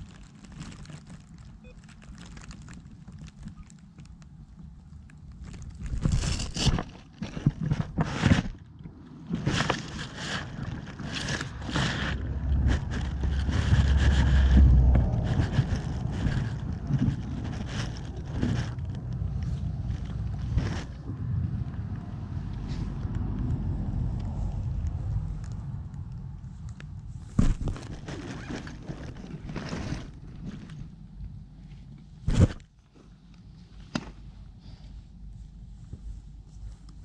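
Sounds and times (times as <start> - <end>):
low wind rumble: 0.0 - 33.3
grass rustling against microphone: 0.0 - 37.0.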